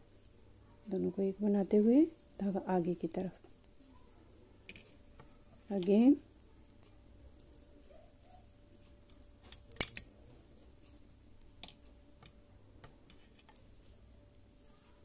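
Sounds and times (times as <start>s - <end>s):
faint steady hum: 0.0s - 15.0s
knitting needles clicking: 0.8s - 3.8s, 4.6s - 15.0s.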